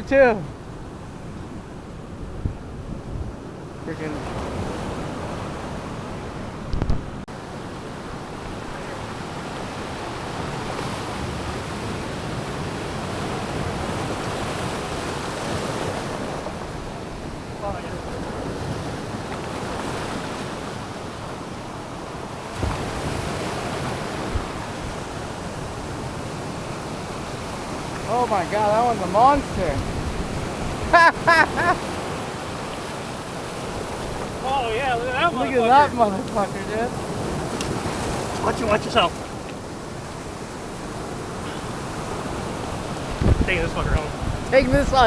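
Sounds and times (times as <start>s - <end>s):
ocean surf breaking: 0.0s - 45.0s
wind buffeting microphone: 0.0s - 45.0s.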